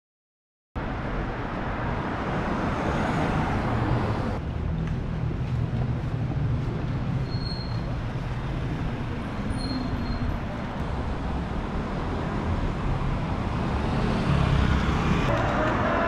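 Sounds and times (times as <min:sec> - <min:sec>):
low rumble of city traffic: 0:00.8 - 0:16.0.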